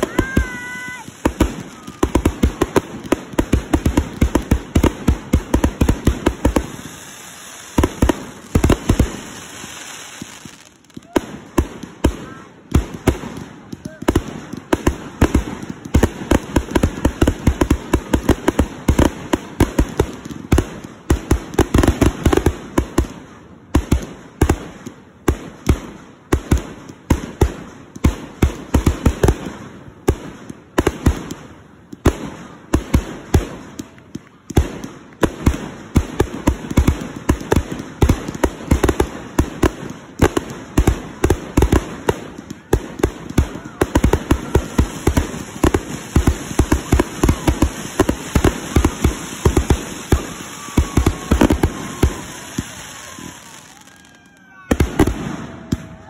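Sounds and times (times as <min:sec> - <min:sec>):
fireworks launching and bursting: 0:00.0 - 0:56.0.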